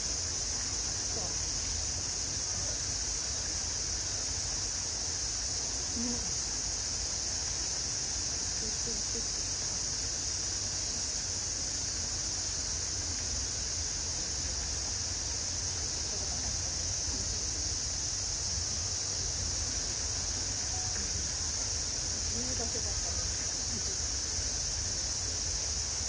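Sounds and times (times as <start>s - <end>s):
cicadas chorus hissing: 0.0s - 26.0s.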